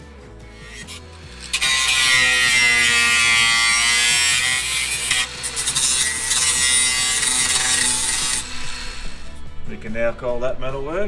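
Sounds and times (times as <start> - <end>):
background music: 0.0 - 11.0
power grinder on sheet metal: 0.5 - 9.4.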